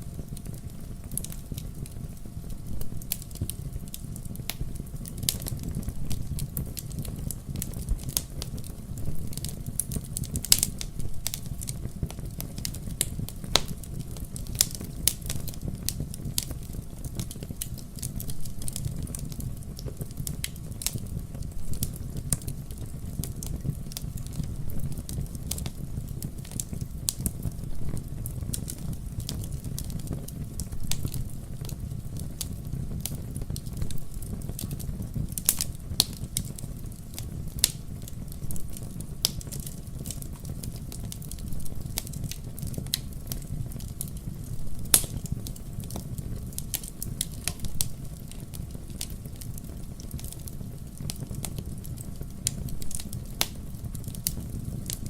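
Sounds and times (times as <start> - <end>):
fire crackling and popping: 0.0 - 55.0
fire flames rumbling: 0.0 - 55.0.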